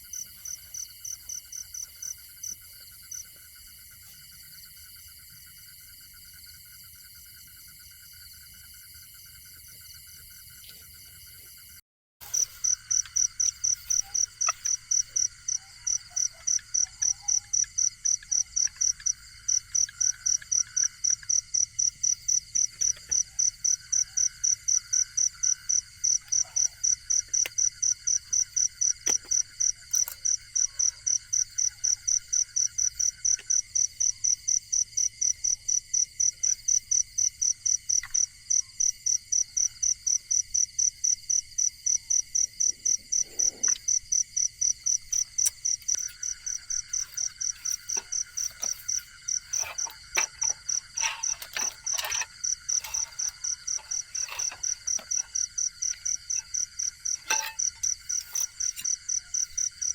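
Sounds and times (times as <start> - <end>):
cricket chirping: 0.0 - 59.9
insects trilling: 0.0 - 59.9.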